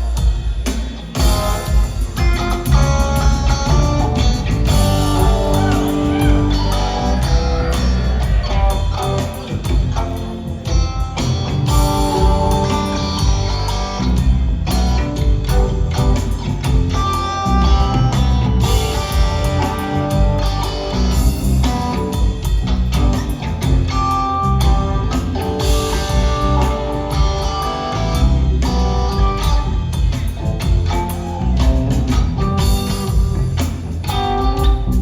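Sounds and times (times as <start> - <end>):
bass guitar: 0.0 - 35.0
drum kit: 0.0 - 35.0
electric guitar lines: 0.0 - 35.0.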